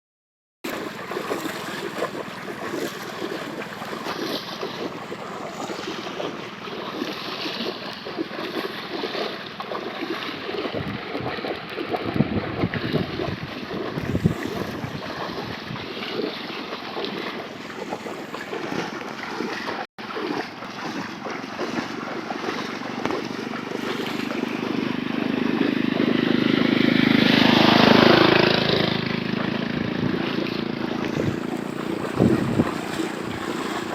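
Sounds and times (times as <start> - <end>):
engine passing: 0.7 - 33.9
knocks and splashes: 0.7 - 33.9
rushing floodwater: 0.7 - 33.9.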